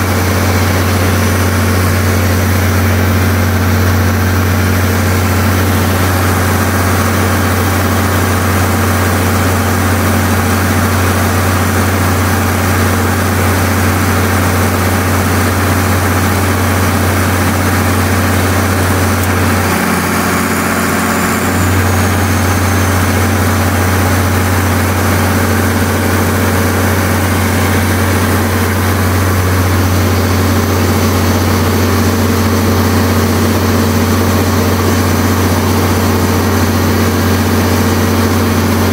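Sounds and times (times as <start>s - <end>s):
diesel generator drone: 0.0s - 38.9s.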